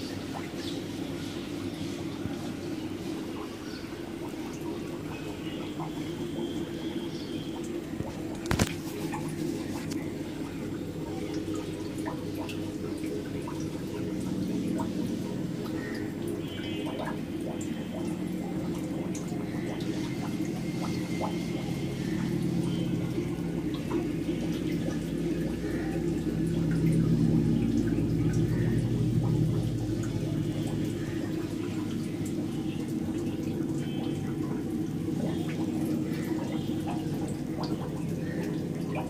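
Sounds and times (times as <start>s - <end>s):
water running into a fish tank: 0.0s - 39.0s
low hum: 4.0s - 38.9s.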